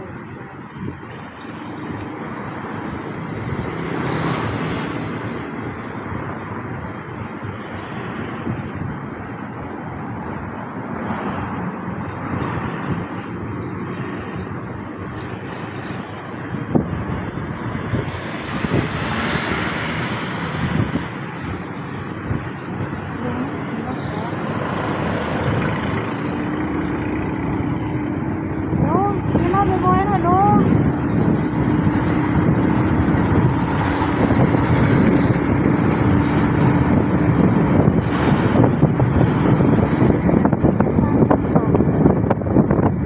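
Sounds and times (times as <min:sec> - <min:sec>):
vehicles passing: 0:00.0 - 0:43.0
wind on microphone: 0:00.0 - 0:43.0.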